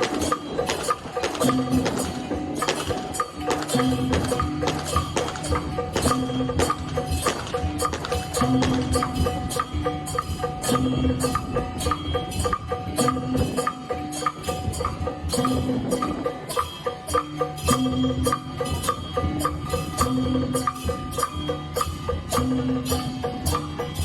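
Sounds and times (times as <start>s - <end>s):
drum strokes: 0.0s - 24.0s
ringing gong beats: 0.0s - 24.0s.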